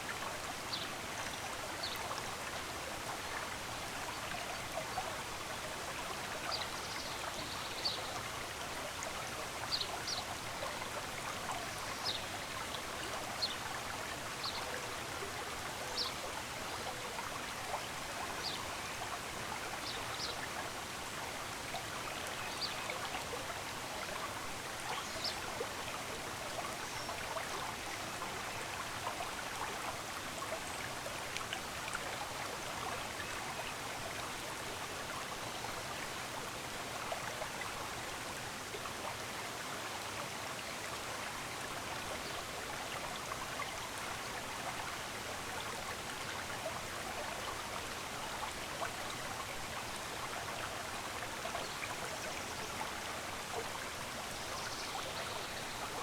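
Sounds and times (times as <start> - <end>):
stream rushing and trickling: 0.0 - 56.0.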